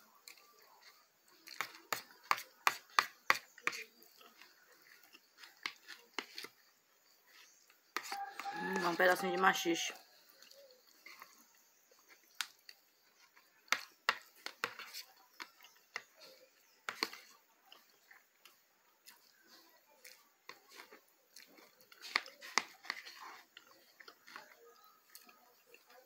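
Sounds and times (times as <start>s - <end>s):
person chewing: 0.1s - 8.6s, 10.2s - 26.0s.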